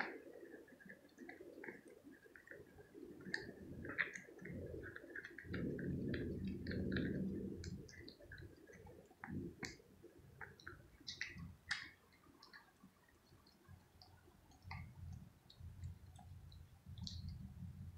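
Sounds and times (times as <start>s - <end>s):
cat chewing and licking: 0.0s - 17.9s.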